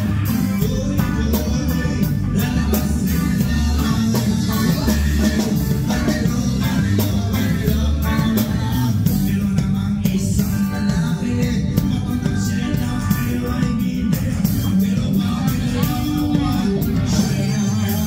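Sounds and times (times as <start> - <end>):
drum kit up close: 0.0 - 18.0
live band playing reggae: 0.0 - 18.0
person singing: 0.0 - 18.0.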